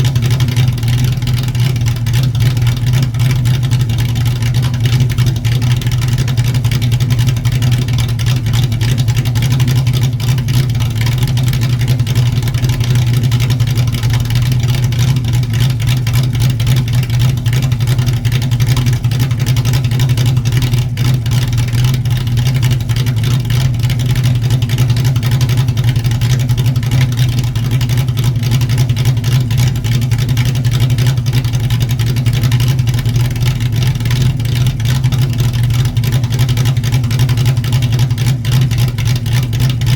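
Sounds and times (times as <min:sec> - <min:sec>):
loud low car exhaust note: 0:00.0 - 0:39.9.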